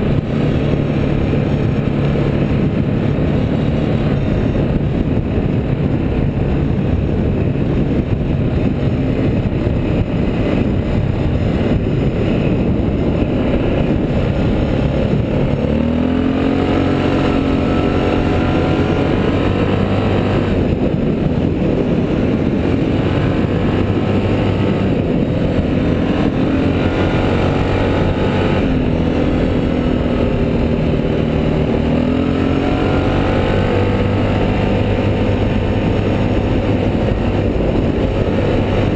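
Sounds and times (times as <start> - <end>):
off-road vehicle engine: 0.0 - 38.9
wind rush over microphone: 0.0 - 38.9.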